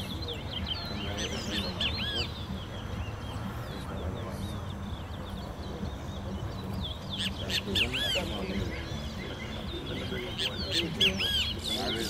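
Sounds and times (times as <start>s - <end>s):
background murmur: 0.0s - 12.0s
birds chirping whistles: 0.0s - 12.0s.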